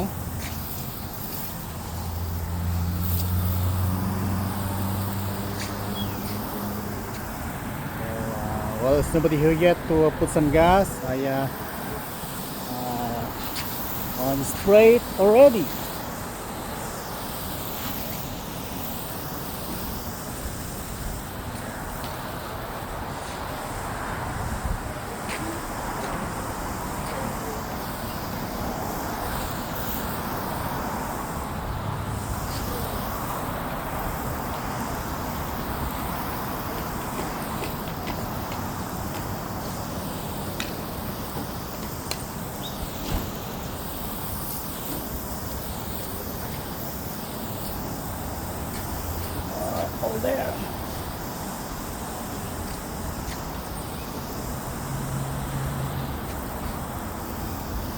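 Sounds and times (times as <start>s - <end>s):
traffic rumble: 0.0s - 57.9s.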